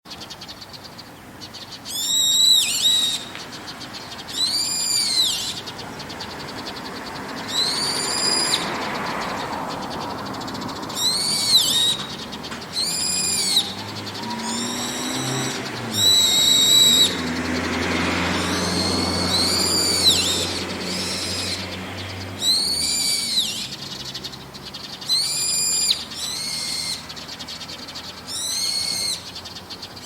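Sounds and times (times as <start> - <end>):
bird shrill calls: 0.1 - 30.0.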